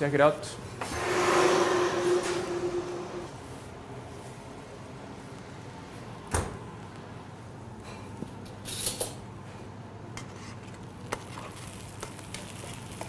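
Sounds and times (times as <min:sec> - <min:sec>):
low kitchen hum: 0:00.3 - 0:13.0.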